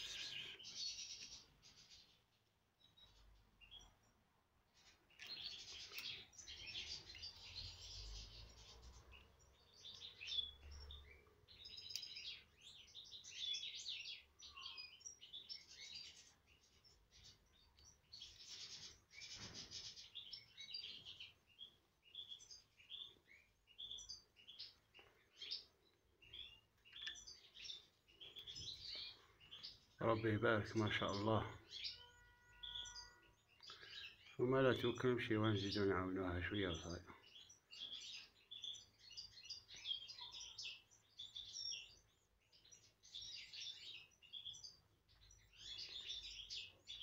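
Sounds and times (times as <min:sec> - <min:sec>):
nestlings begging with high chirps: 0:00.0 - 0:47.0.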